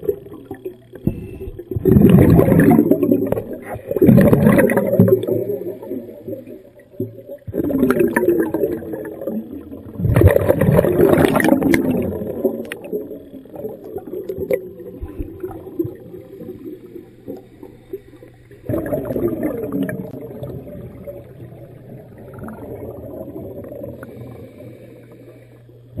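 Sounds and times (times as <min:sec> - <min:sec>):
exhaled bubbles from regulator: 0:00.0 - 0:26.0
low steady hum: 0:00.0 - 0:26.0.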